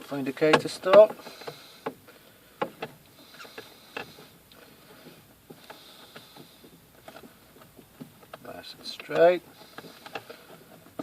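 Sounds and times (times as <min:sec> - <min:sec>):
parts rubbing: 0:00.0 - 0:11.0.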